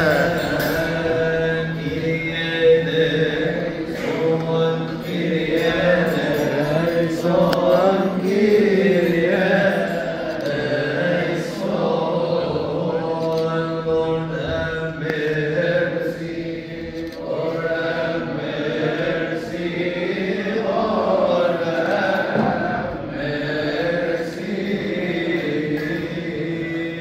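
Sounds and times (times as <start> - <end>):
voices chanting long notes: 0.0 - 27.0.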